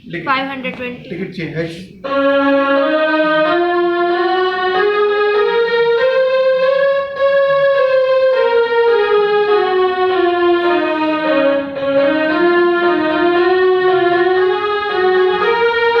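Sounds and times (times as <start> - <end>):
electronic keyboard playing a scale: 2.0 - 16.0.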